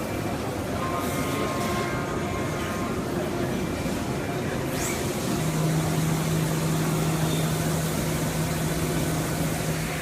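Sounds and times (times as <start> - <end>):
welding robot low hum: 1.0 - 10.0.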